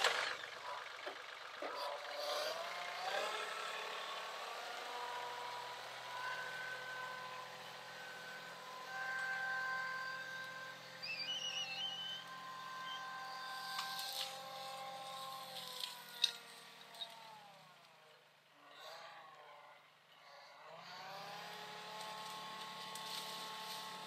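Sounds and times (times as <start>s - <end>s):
tractor engine running: 0.0s - 18.4s, 21.3s - 24.0s.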